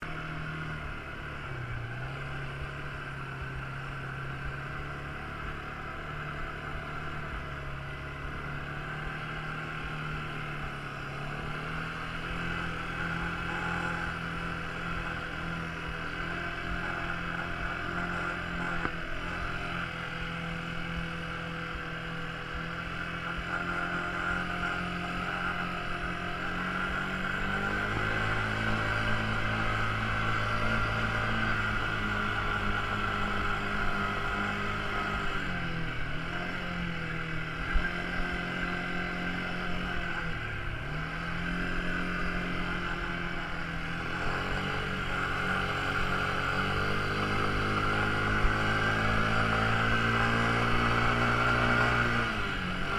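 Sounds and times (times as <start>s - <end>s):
quad bike engine running: 0.0s - 52.9s.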